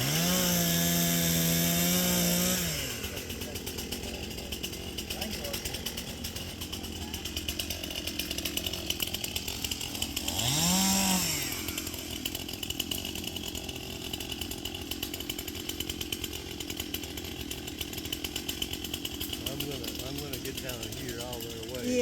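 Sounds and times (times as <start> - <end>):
chainsaw idling and revving: 0.0 - 22.0.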